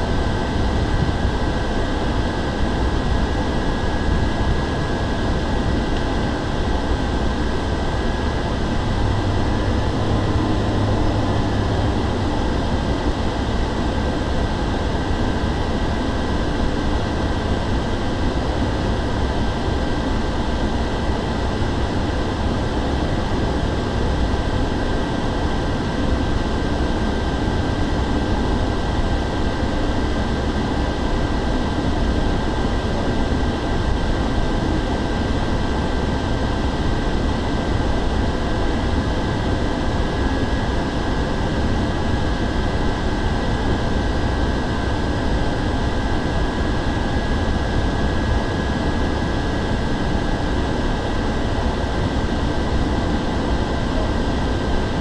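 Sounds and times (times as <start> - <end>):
high turbine whine: 0.0 - 55.0
turboprop engine rumble: 0.0 - 55.0.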